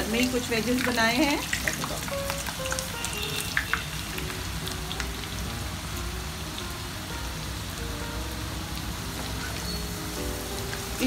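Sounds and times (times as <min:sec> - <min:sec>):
potato wedges sizzling in oil: 0:00.0 - 0:11.0.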